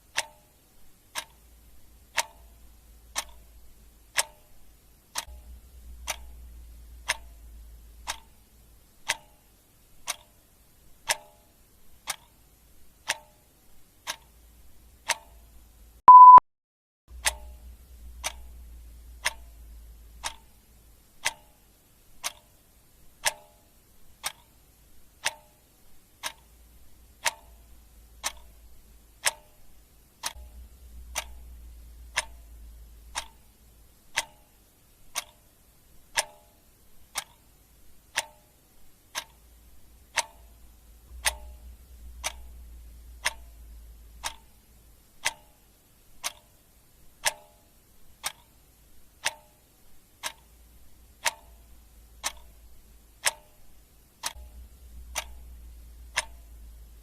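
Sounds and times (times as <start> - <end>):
faint low rumble: 0.0 - 13.0, 17.1 - 23.2, 25.8 - 47.3, 49.9 - 57.0
clock ticking: 0.0 - 16.4, 17.1 - 57.0.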